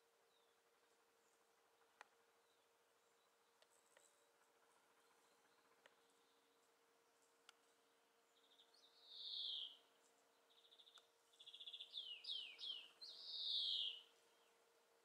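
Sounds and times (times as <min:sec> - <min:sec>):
songbird singing buzzy trills: 0:00.1 - 0:15.0.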